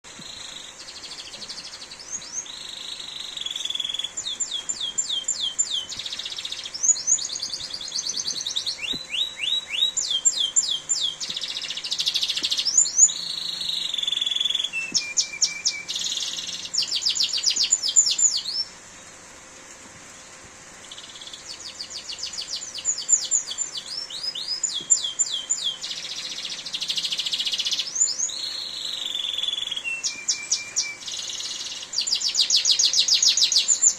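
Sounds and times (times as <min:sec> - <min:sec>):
heavy rain hiss: 0:00.0 - 0:33.9
canary singing trills: 0:00.1 - 0:19.0, 0:20.8 - 0:33.9.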